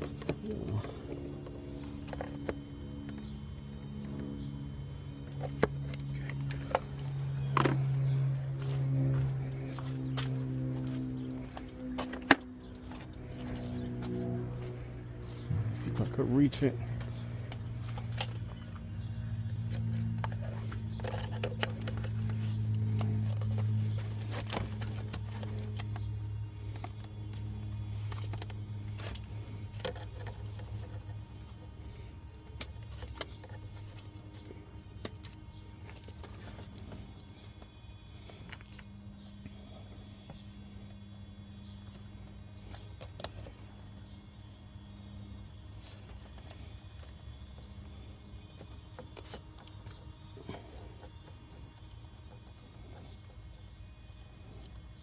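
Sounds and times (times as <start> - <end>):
faint low drone: 0.0 - 55.0
steady low hum: 0.0 - 55.0.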